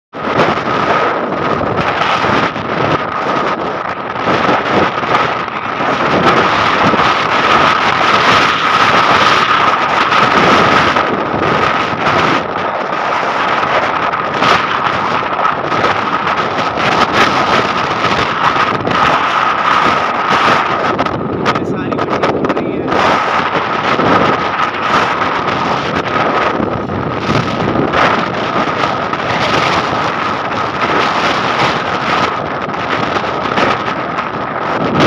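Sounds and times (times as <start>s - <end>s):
wind buffeting microphone: 0.1s - 35.0s.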